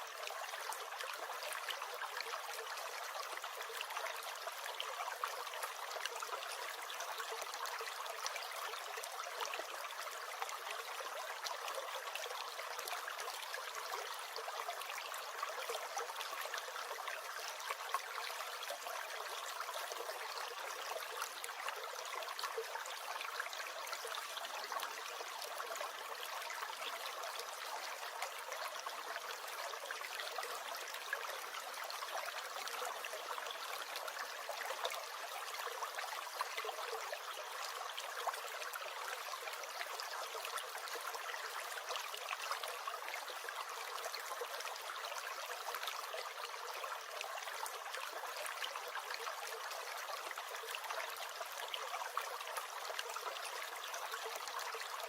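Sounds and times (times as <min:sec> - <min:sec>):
stream gurgling and trickling: 0:00.0 - 0:55.0.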